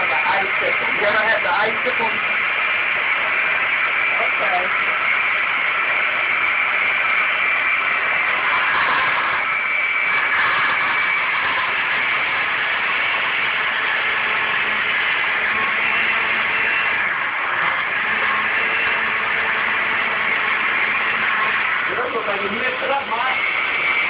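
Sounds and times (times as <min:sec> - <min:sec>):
blender motor running: 0:00.0 - 0:24.0.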